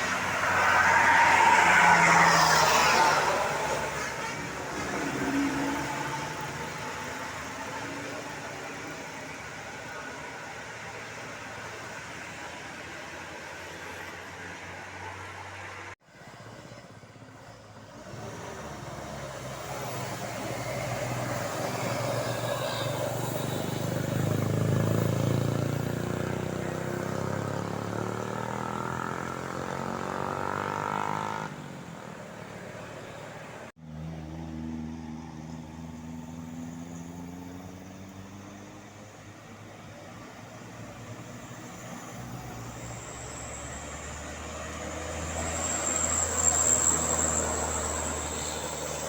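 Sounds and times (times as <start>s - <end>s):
bus diesel engine passing: 0.0s - 49.0s.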